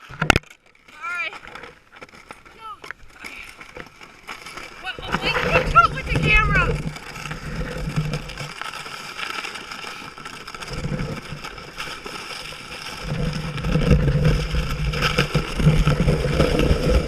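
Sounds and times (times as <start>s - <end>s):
sled scraping over snow: 0.0s - 17.0s.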